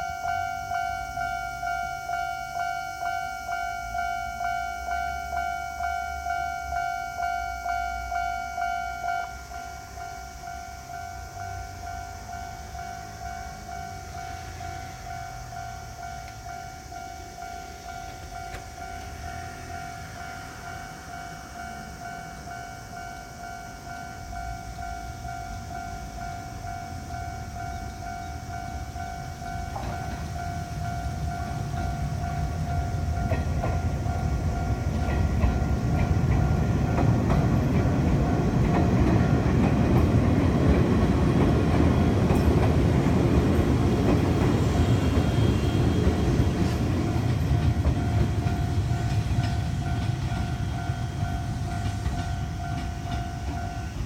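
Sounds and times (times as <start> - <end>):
level crossing alarms ringing: 0.0 - 54.0
train rumble and wheel clatter: 0.0 - 54.0.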